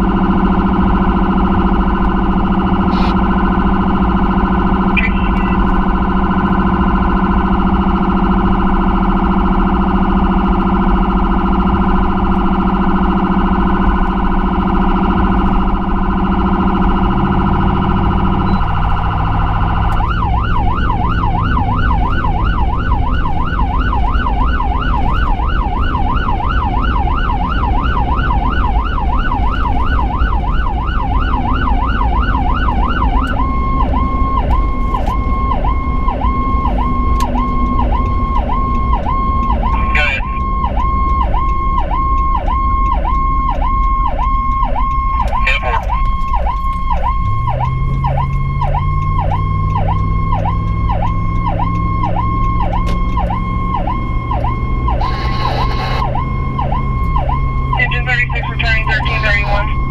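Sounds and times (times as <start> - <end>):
electronic siren wailing and yelping: 0.0 - 59.9
low engine drone: 0.0 - 59.9.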